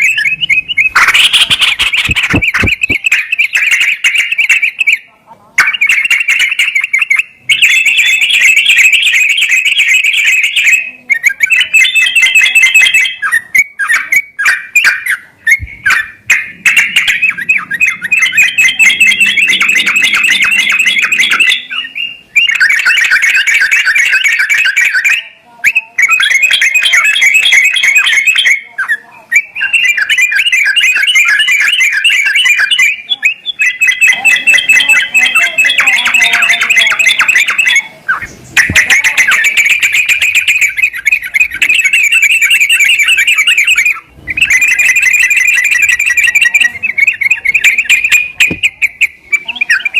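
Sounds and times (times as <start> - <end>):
bulbul song: 0.0 - 49.9.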